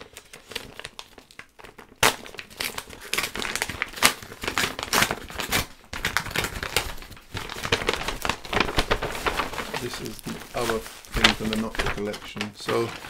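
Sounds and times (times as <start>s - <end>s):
paper packaging crinkling: 0.0s - 13.0s.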